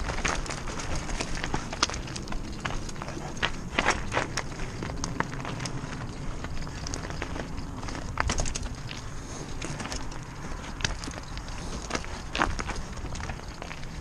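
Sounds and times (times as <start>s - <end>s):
bike parts rattling: 0.0s - 14.0s
bike tyres rumbling over stones: 0.0s - 14.0s
stones clicking and knocking: 0.0s - 14.0s.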